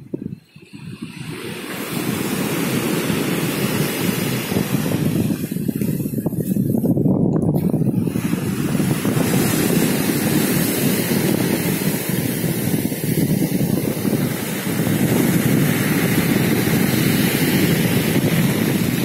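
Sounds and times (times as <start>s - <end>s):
wind rumbling on microphone: 0.0s - 19.0s
surf splashing against concrete: 1.0s - 19.0s
wash over pebble beach: 1.1s - 6.8s, 7.7s - 19.0s.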